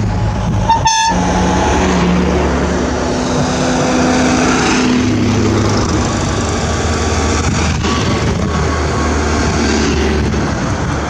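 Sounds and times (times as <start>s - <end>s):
small car engines passing: 1.2s - 11.0s.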